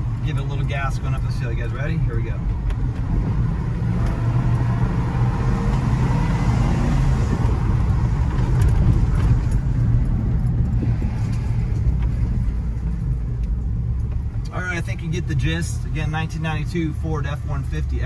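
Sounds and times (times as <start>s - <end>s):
truck engine pulling uphill: 0.0s - 16.2s.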